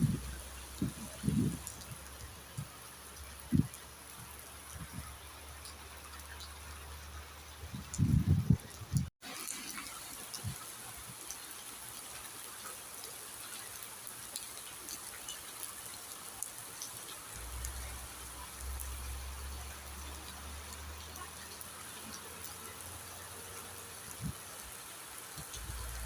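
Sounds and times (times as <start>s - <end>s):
steady rain falling: 0.0s - 26.0s
water trickling: 0.0s - 26.0s.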